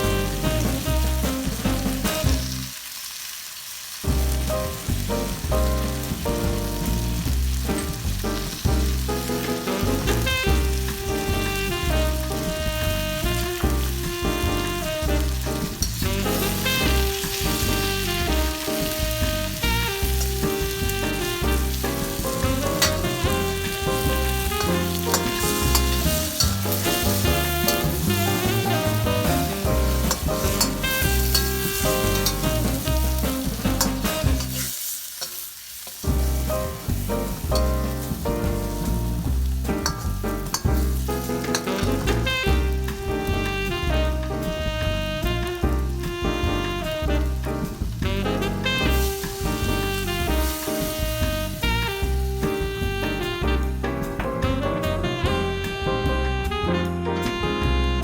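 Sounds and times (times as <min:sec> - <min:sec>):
instrumental music with a beat: 0:00.0 - 0:02.7, 0:04.1 - 0:34.8, 0:36.0 - 0:58.0
food sizzling in a pan: 0:00.0 - 0:54.2.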